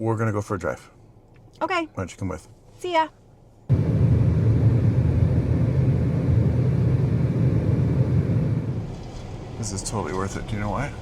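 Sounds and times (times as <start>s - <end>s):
car road and engine rumble: 0.6s - 11.0s.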